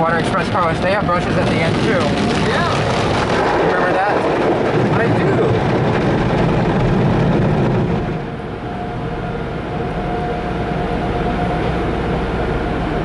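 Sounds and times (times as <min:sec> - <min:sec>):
car wash dryer rushing: 0:00.0 - 0:13.0
steady whine: 0:00.0 - 0:13.0.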